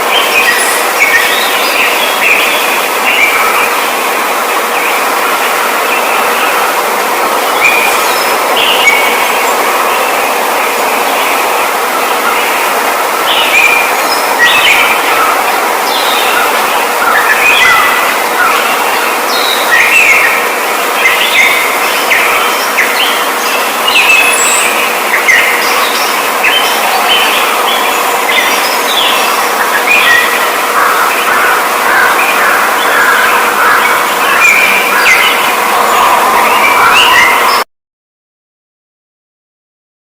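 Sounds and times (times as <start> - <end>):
small birds chirping: 0.0 - 37.6
steady hiss: 0.0 - 37.6
faint hum: 0.0 - 37.7.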